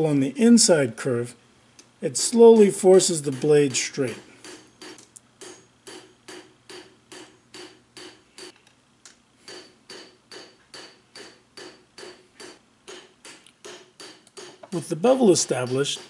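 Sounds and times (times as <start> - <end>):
hammer striking steel on anvil: 2.2 - 8.6, 9.4 - 16.0.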